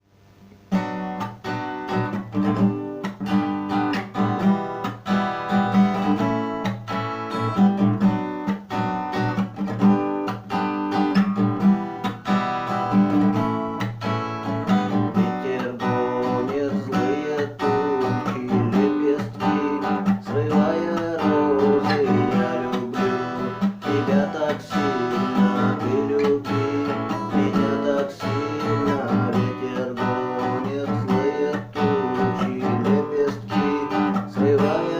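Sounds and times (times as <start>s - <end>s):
acoustic guitar strumming: 0.5s - 34.9s.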